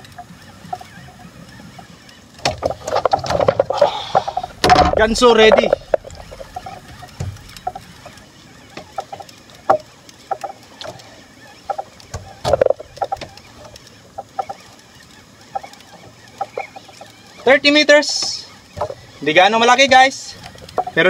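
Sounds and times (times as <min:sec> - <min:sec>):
fishing reel drag chirping: 0:00.0 - 0:21.0.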